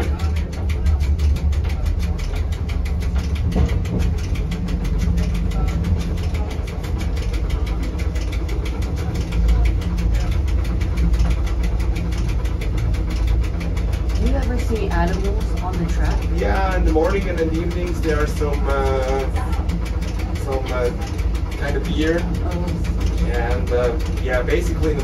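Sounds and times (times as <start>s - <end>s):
fast even clicking: 0.0s - 25.0s
train motors rumbling: 0.0s - 25.0s.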